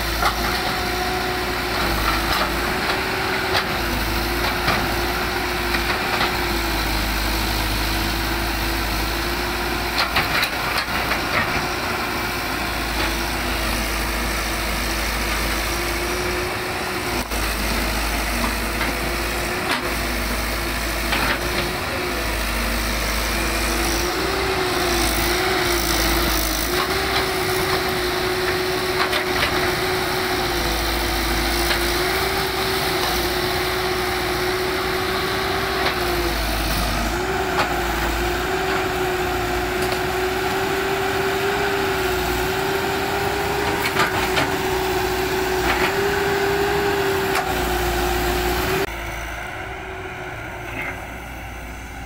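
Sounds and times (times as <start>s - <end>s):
excavator diesel engine whine: 0.0s - 52.0s.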